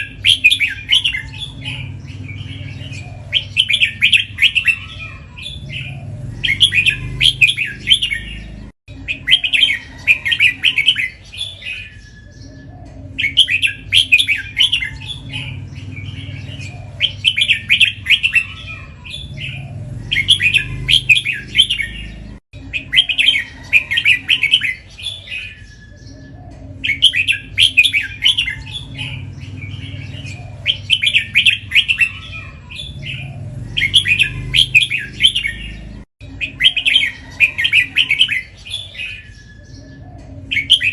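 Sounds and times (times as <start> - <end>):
bird singing warbled phrases: 0.0 - 40.9.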